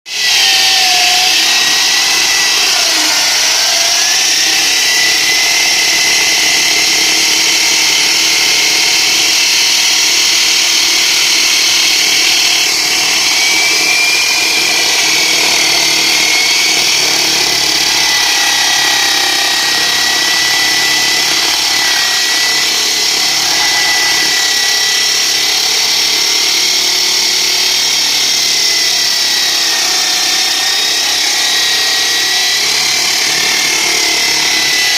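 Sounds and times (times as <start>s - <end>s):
power saw cutting concrete: 0.1s - 34.9s.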